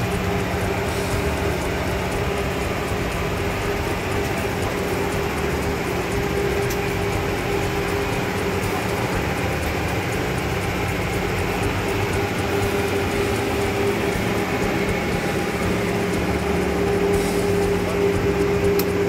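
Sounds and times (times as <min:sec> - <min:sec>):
constant rushing noise: 0:00.0 - 0:19.0
mechanical hum: 0:00.0 - 0:19.0.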